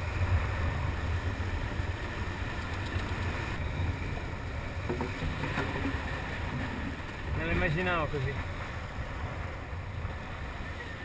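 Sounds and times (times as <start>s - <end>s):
sea and water noise: 0.0s - 11.0s
wind rumble on microphone: 0.0s - 11.0s.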